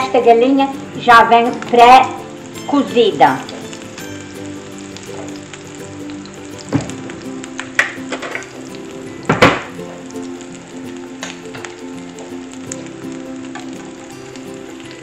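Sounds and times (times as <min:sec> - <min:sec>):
patties sizzling in a frying pan: 0:00.0 - 0:15.0
sharp oil crackles: 0:00.0 - 0:15.0
soft background music: 0:00.0 - 0:15.0.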